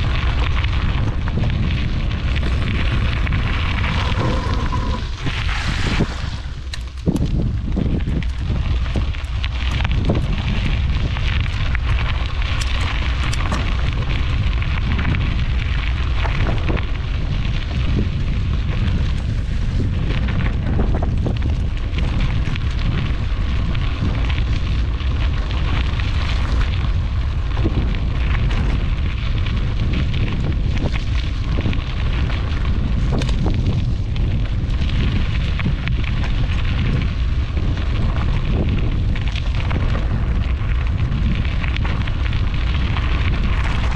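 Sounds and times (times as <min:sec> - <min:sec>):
bicycle tyres on gravel: 0:00.0 - 0:43.9
wind buffeting microphone: 0:00.0 - 0:43.9.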